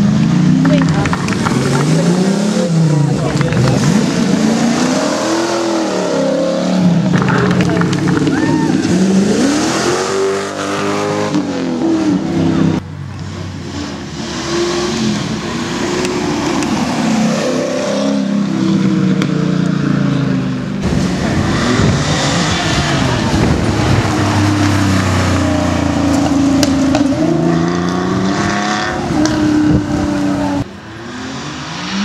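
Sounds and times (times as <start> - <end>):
sports car engines accelerating: 0.0 - 32.0.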